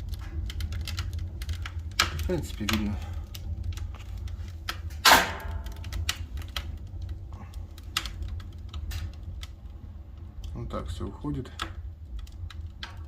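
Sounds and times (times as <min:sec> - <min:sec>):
low steady fire rumble: 0:00.0 - 0:13.0
wood fire crackling: 0:00.0 - 0:13.0.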